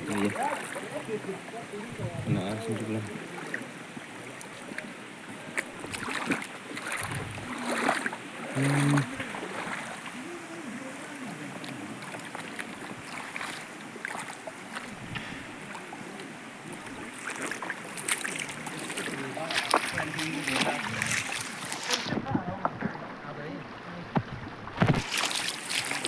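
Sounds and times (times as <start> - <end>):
water flowing and splashing: 0.0 - 26.0.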